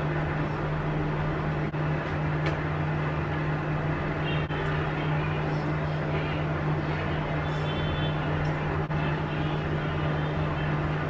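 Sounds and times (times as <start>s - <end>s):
appliance humming: 0.0s - 11.0s.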